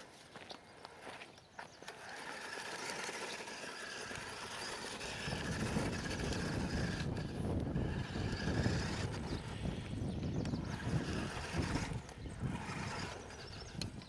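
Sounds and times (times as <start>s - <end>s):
rc truck electric motor whine: 1.6s - 14.0s.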